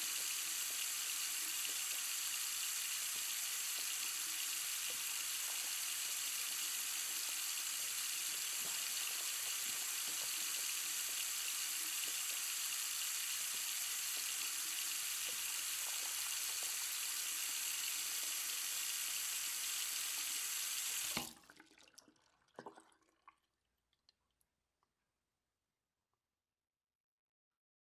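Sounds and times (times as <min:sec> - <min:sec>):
tap water running into sink: 0:00.0 - 0:23.3.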